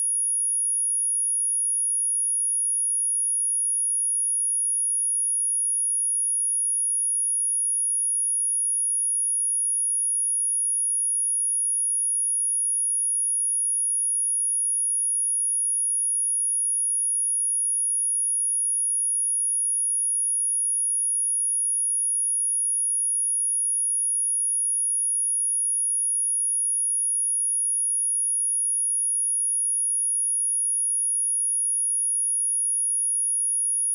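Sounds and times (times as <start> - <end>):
high-pitched sine-wave test tone: 0.0 - 33.9.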